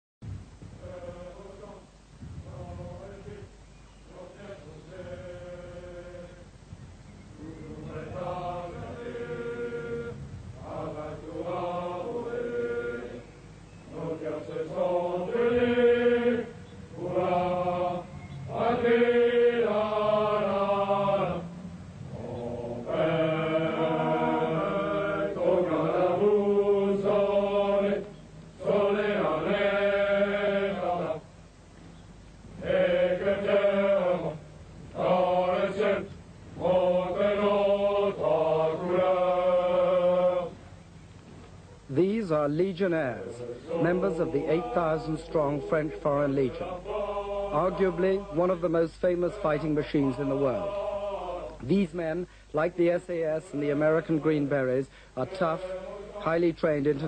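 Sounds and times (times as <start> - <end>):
men singing marching song: 0.8 - 6.6, 7.3 - 31.4, 32.5 - 40.6, 41.9 - 57.0.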